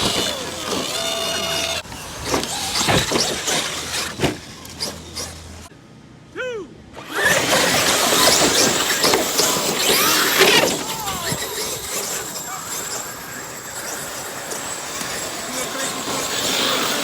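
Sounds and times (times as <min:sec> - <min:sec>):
electric motors whining: 0:00.0 - 0:05.7, 0:06.9 - 0:17.0.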